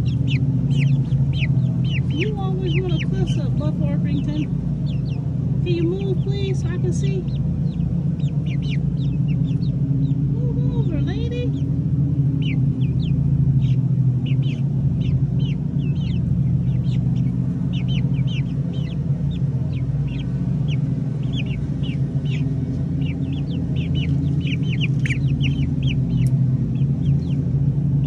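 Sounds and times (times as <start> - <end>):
chicks peeping: 0.0 - 28.0
steady low hum: 0.0 - 28.0.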